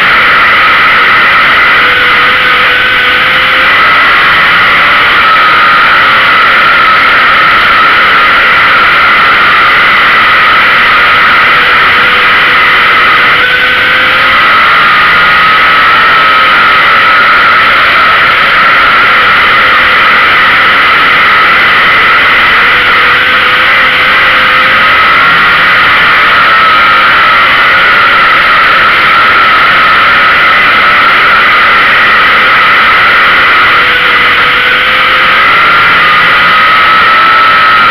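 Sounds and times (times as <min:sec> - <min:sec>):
race car engine running hard: 0:00.0 - 0:37.9.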